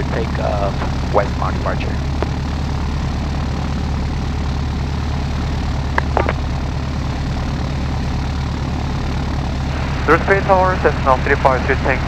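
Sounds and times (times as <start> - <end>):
aircraft engines idling: 0.0 - 12.0.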